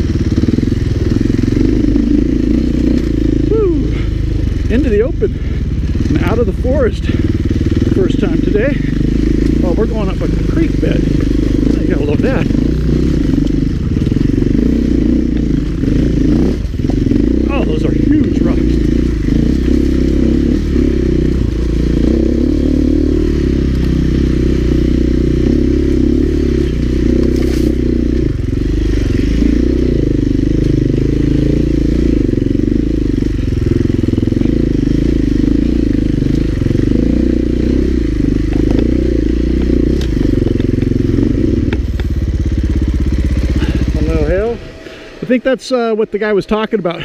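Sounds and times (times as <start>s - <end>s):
dirt bike engine running: 0.0s - 47.0s.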